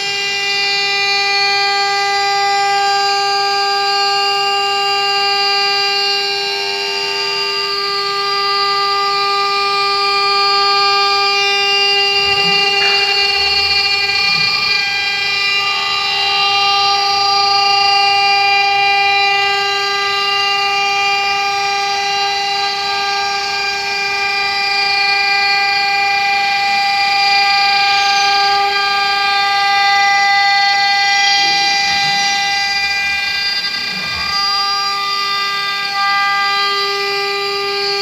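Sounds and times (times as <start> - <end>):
milling machine spindle whine: 0.0 - 38.0.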